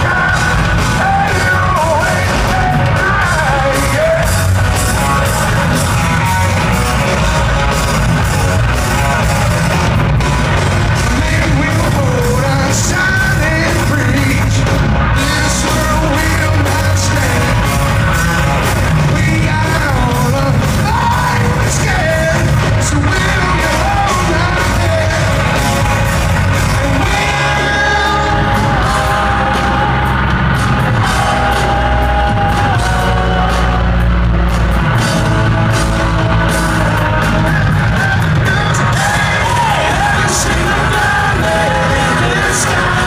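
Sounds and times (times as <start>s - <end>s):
man singing: 0.0s - 8.1s, 10.8s - 30.3s, 34.9s - 43.0s
bass guitar: 0.0s - 43.0s
drums: 0.0s - 43.0s
electric guitars: 0.0s - 43.0s.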